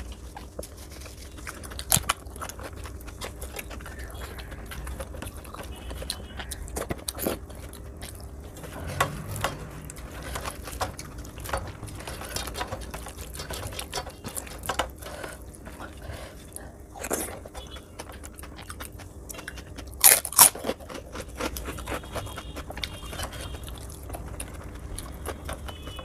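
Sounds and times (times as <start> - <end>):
wet chewing: 0.0 - 26.0.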